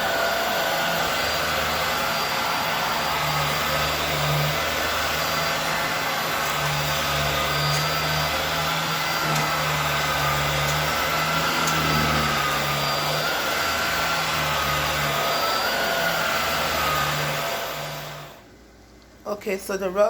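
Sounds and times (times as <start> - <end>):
upright vacuum cleaner running: 0.0 - 18.5.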